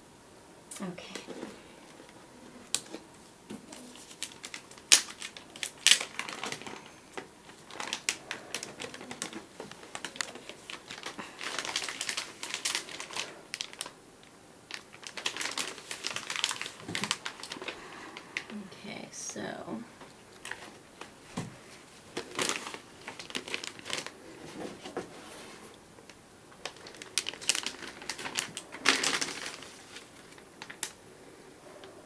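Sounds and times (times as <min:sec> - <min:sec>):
plastic and tape crinkling: 0:00.7 - 0:18.7, 0:20.0 - 0:31.1.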